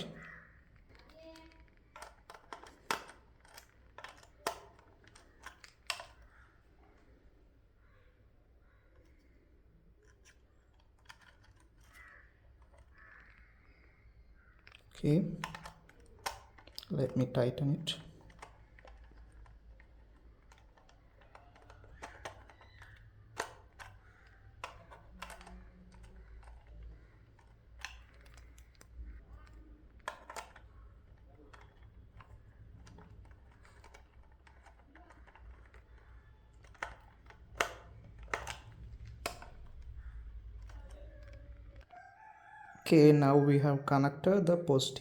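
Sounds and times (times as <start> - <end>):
screwdriver clicks and taps: 0.0 - 6.4, 10.0 - 13.9, 14.6 - 17.3, 17.9 - 41.9.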